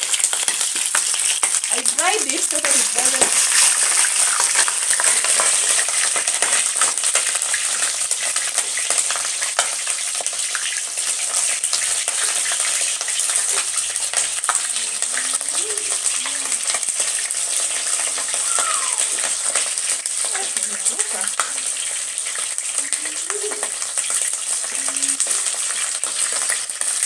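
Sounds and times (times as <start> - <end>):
chicken deep frying in oil: 0.0 - 27.0.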